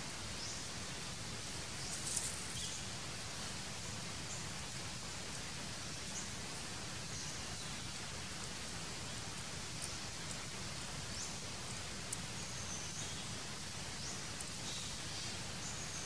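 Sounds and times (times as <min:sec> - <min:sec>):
forest ambience hiss: 0:00.0 - 0:16.0
rustle: 0:00.0 - 0:16.0.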